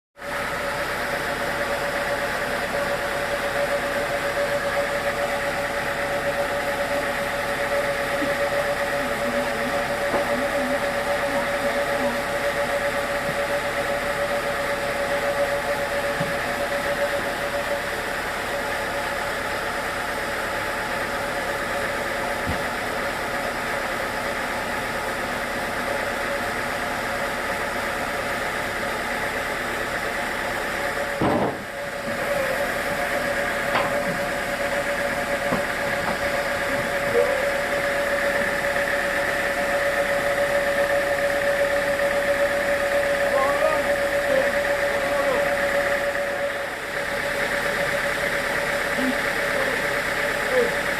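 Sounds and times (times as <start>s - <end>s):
sawmill machinery hum: 0.2s - 50.9s.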